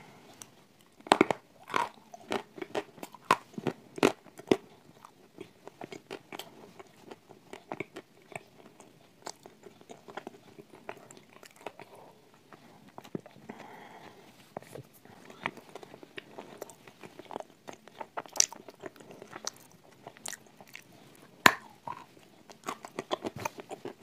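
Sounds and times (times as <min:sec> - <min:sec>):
crunchy chewing: 0:00.3 - 0:24.0.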